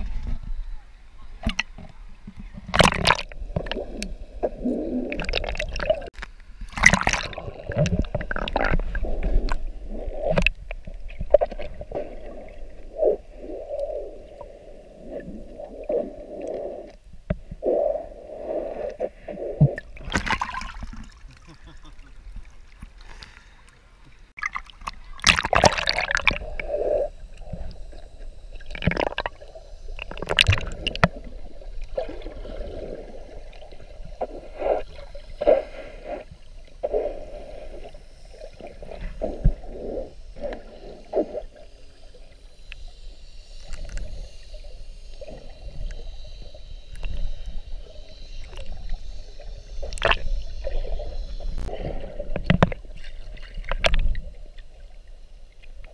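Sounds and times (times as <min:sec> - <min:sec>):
muffled underwater water sloshing: 0:00.0 - 0:55.9.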